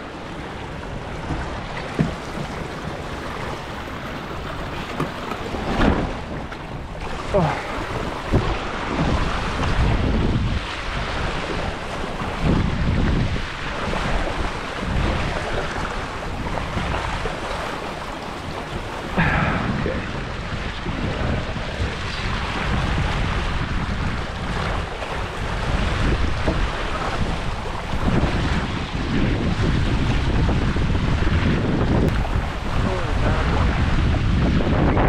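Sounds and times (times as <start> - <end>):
water rushing past hulls: 0.0 - 35.0
wind buffeting microphone: 0.0 - 35.0.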